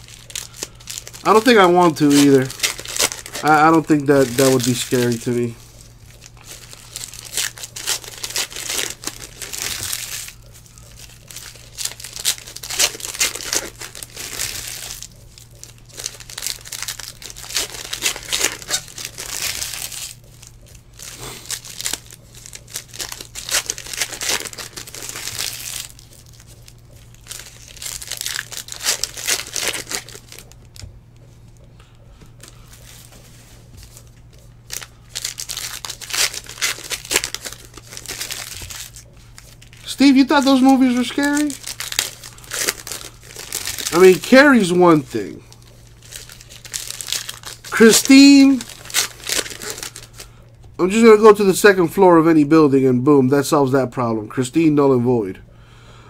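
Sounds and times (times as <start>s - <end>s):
foil wrapper crinkling and tearing: 0.0s - 30.8s, 33.8s - 51.8s.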